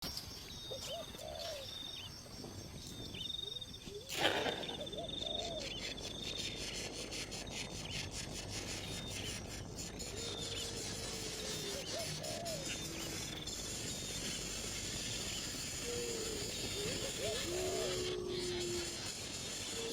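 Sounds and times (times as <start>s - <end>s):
insect trills: 0.1s - 19.9s.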